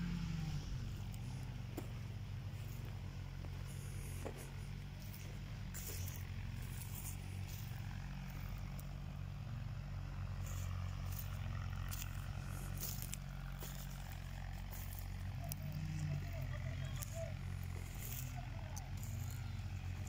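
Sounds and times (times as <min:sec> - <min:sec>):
machinery engine drone: 0:00.0 - 0:20.0
footsteps on dry stalks: 0:00.3 - 0:20.0.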